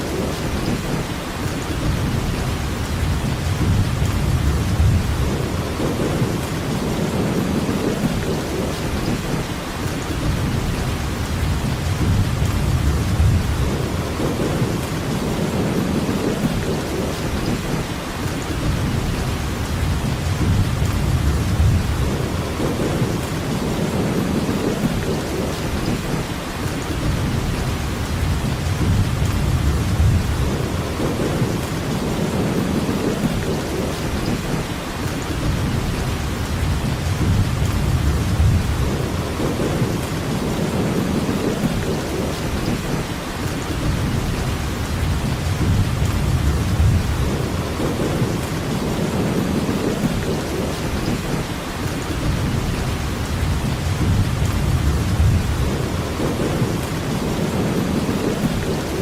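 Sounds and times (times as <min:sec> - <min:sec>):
steady rain: 0:00.0 - 0:59.0
thunder rumble: 0:00.0 - 0:59.0.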